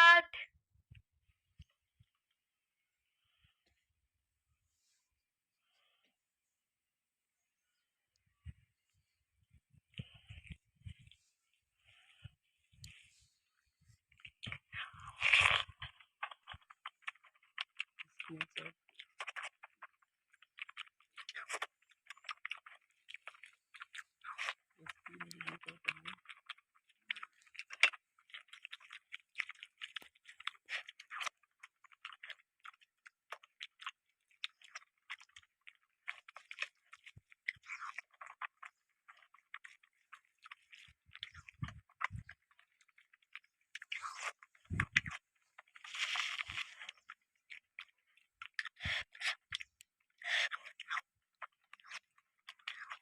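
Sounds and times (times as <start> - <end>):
person chewing food: 7.6 - 53.0.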